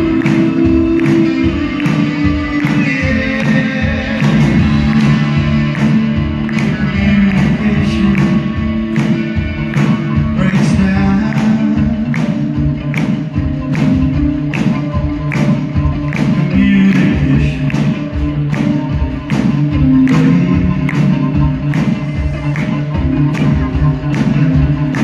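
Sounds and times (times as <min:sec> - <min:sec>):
drums steady beat: 0:00.0 - 0:25.0
live rock band: 0:00.0 - 0:25.0.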